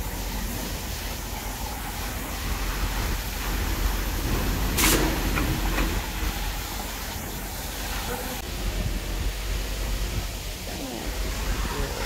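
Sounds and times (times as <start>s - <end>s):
construction machinery rumble and hiss: 0.0s - 12.0s.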